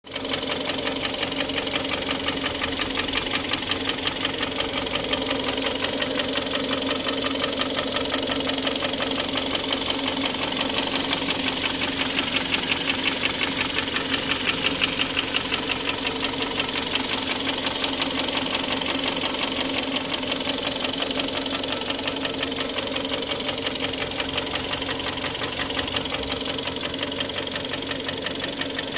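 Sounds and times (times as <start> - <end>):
engine knocking: 0.0 - 28.9
car engine running: 0.1 - 28.9.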